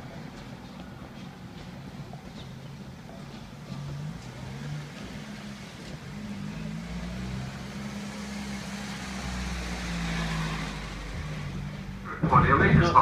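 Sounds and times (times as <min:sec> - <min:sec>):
low rumble of moving train: 0:00.0 - 0:13.0.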